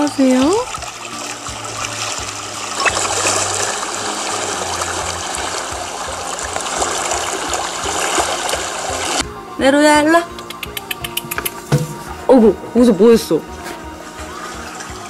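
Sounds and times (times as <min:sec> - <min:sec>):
trickling stream water: 0:00.0 - 0:09.3, 0:10.2 - 0:15.0.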